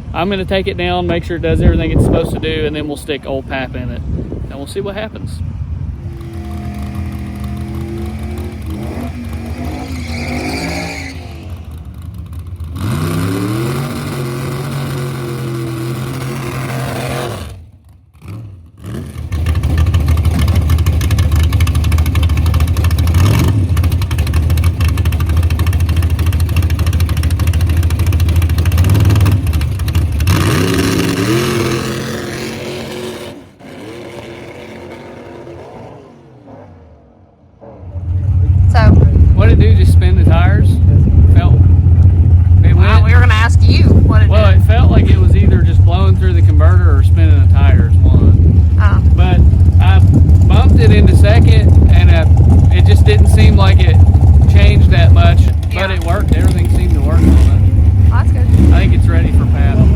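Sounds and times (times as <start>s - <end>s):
drag car engine revving: 5.6s - 59.9s.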